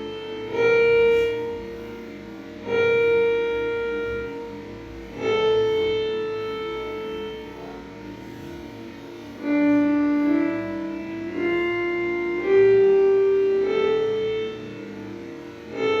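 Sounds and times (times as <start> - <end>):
piano-like keyboard melody: 0.0 - 16.0.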